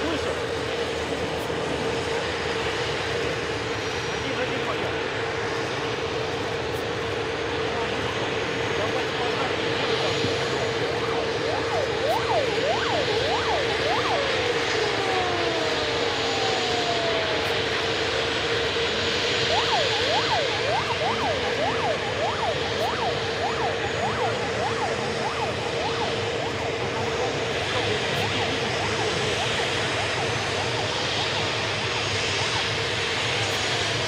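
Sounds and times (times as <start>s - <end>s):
aircraft engine whine: 0.0s - 34.0s
yelping siren sweeps: 0.0s - 34.0s.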